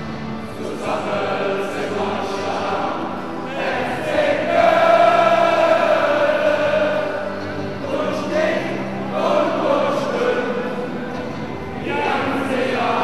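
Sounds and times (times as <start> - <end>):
choir singing: 0.0 - 13.0
low musical accompaniment: 0.0 - 13.0.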